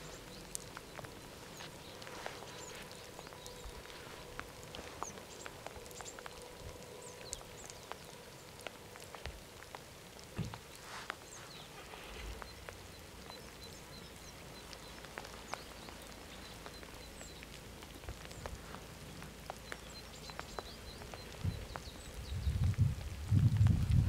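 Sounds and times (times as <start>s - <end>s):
faint background noise: 0.0s - 24.0s
raindrops ticking: 0.0s - 24.0s.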